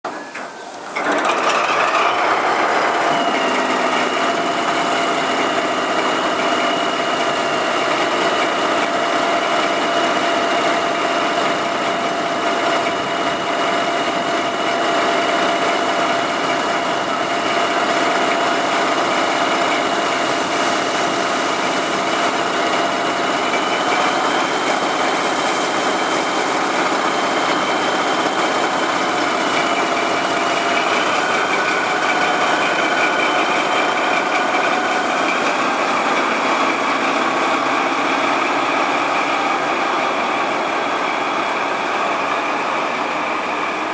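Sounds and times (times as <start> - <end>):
diesel locomotive idling: 0.1 - 43.9.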